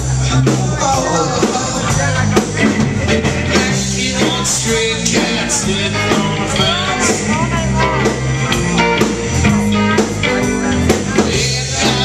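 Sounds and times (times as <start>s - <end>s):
distorted electric guitars: 0.0s - 12.0s
drum kit: 0.0s - 12.0s.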